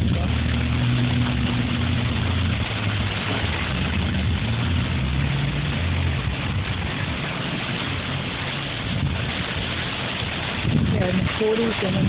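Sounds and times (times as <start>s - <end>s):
low rumble: 0.0s - 12.0s
strong gusty wind: 0.0s - 12.0s.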